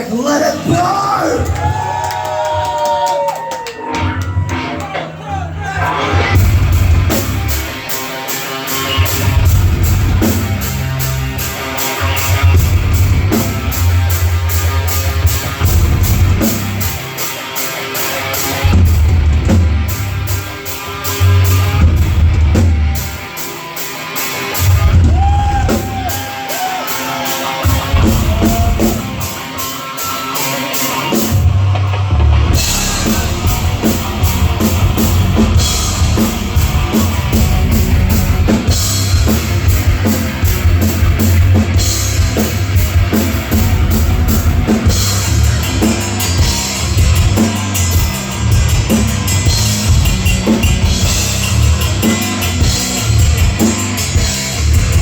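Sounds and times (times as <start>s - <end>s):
drum kit beat: 0.0s - 55.0s
bass guitar: 3.8s - 26.3s, 27.4s - 55.0s
distorted electric guitar: 5.8s - 55.0s.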